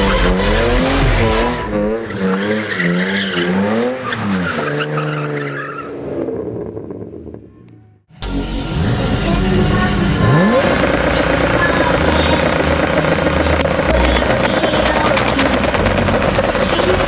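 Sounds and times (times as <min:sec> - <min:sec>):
car engine revving: 0:00.0 - 0:07.6, 0:08.2 - 0:17.0
tyres skidding: 0:00.0 - 0:07.8, 0:08.8 - 0:17.0.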